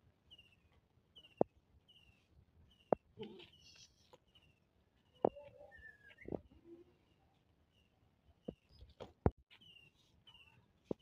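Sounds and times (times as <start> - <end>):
small bird chirping: 0.2 - 11.0.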